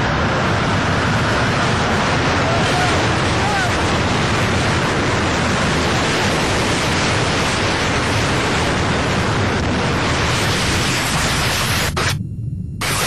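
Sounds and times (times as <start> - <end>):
loud steady rushing noise: 0.0 - 12.2, 12.8 - 13.0.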